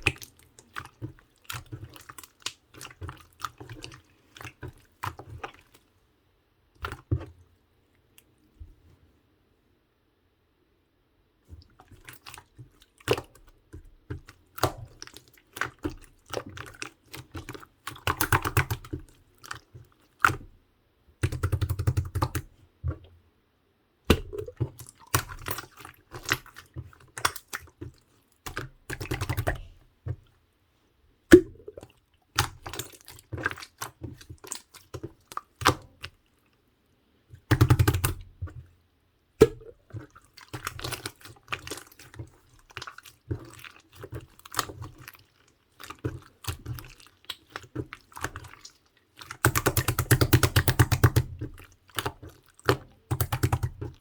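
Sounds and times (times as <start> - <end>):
wet squishing with sticky clicks: 0.0 - 6.0, 6.7 - 8.8, 11.4 - 23.3, 24.0 - 30.5, 31.2 - 54.0.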